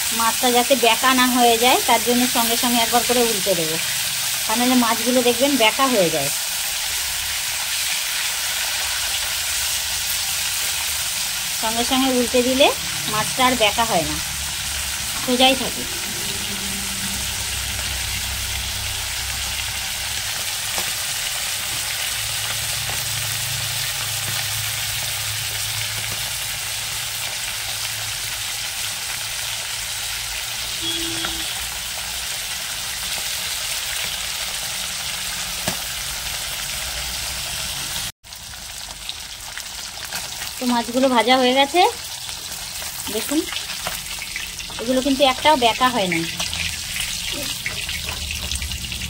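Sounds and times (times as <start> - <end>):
fish frying in hot oil: 0.0 - 49.0.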